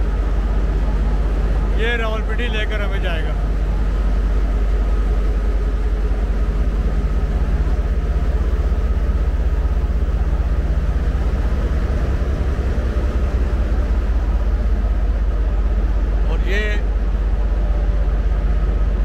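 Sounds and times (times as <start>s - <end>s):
diesel locomotive idling: 0.0s - 19.0s.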